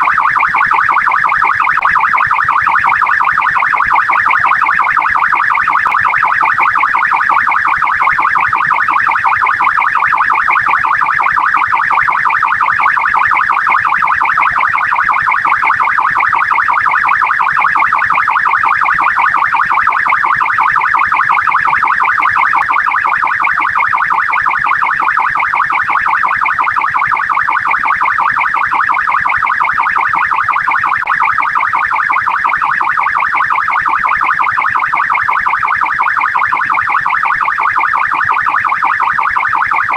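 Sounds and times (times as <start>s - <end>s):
police siren warbling: 0.0s - 39.9s.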